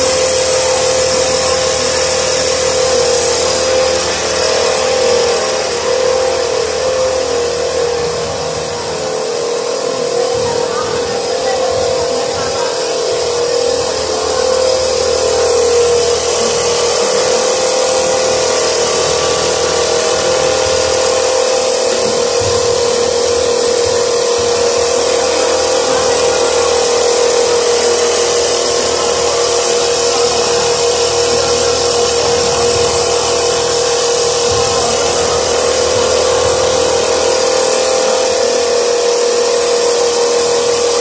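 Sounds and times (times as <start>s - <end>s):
industrial sewing machine whirring: 0.0s - 41.0s.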